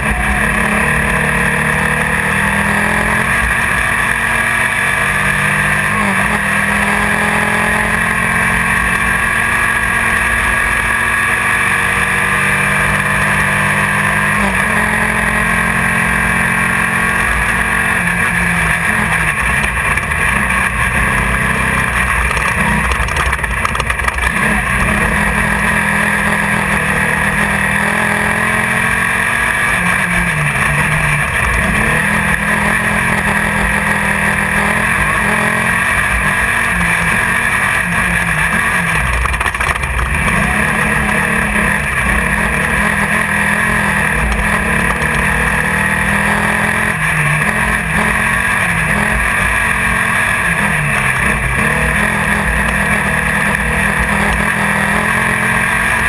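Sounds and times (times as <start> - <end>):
buggy engine pulling hard: 0.0 - 56.0
wind and driving noise: 0.0 - 56.0.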